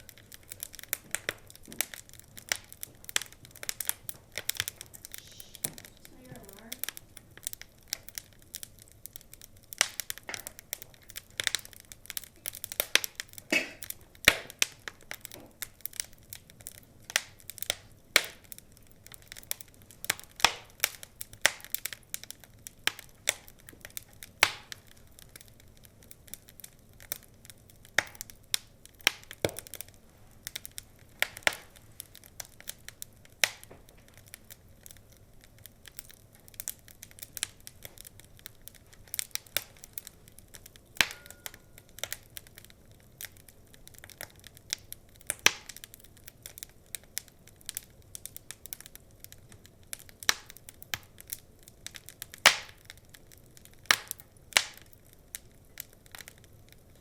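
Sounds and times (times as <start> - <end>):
faint low hiss: 0.0 - 57.0
wood fire crackling: 0.0 - 57.0.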